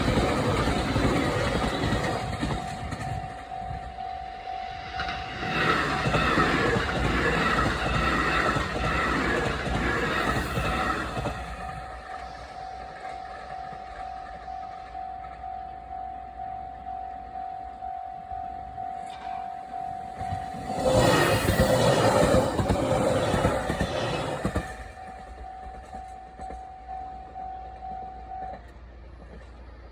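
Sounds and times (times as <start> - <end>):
crossing warning bell ringing: 0.0 - 29.0
train rumbling past: 0.0 - 29.9.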